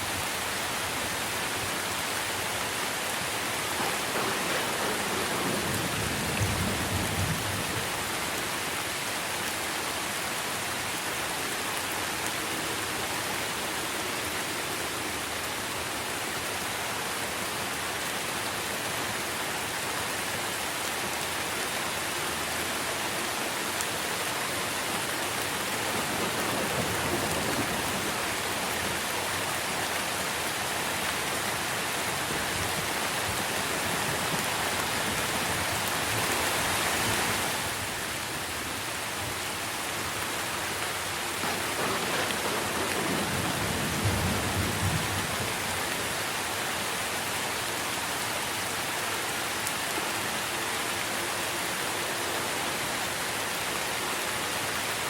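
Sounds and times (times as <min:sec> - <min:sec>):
rain on tree leaves: 0:00.0 - 0:55.0.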